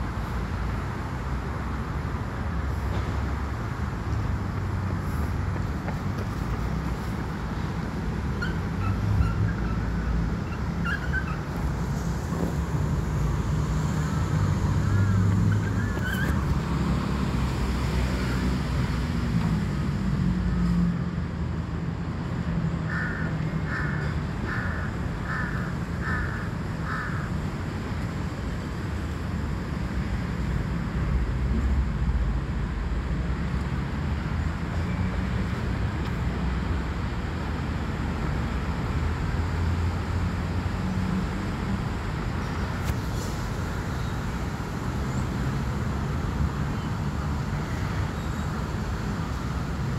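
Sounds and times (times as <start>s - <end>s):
distant city traffic rumble: 0.0s - 49.9s.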